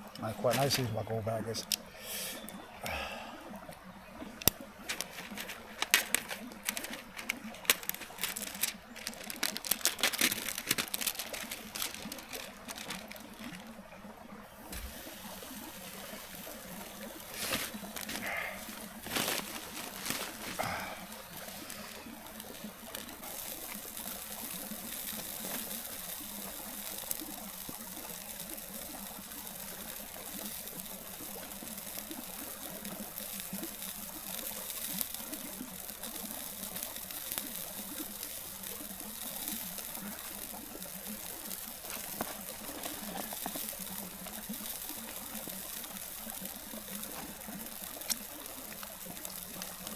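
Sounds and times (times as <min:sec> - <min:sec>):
stream trickling: 0:00.0 - 0:49.9.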